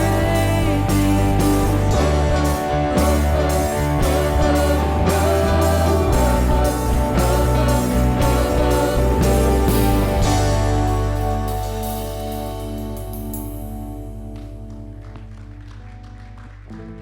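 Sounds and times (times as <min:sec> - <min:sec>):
live band playing instrumental: 0:00.0 - 0:14.4.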